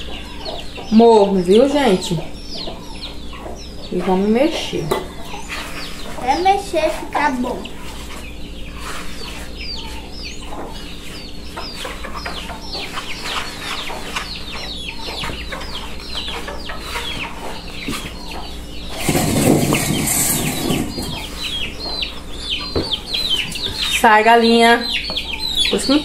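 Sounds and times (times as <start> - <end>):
chickens peeping: 0.0 - 26.0.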